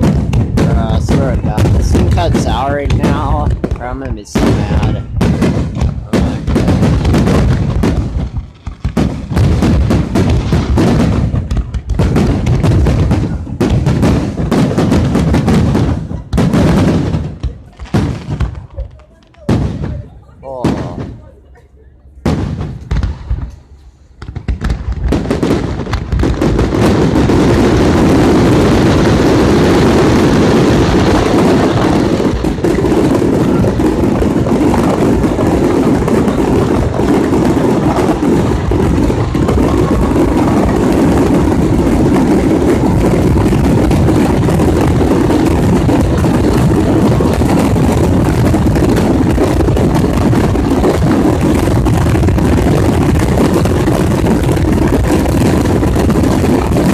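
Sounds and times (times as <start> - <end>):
fireworks booms and crackles: 0.0 - 21.3, 22.2 - 56.9.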